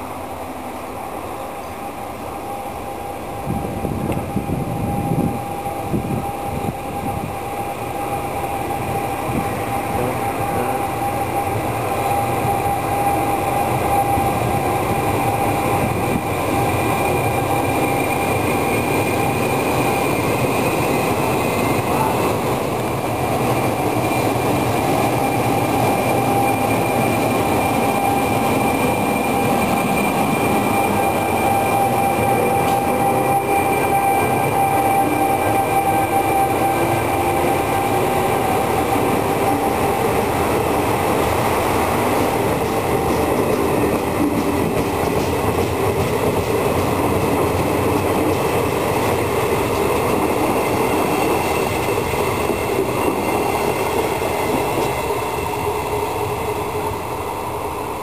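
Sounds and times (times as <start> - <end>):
train rolling on rails: 0.0 - 58.0
high whine: 1.6 - 58.0.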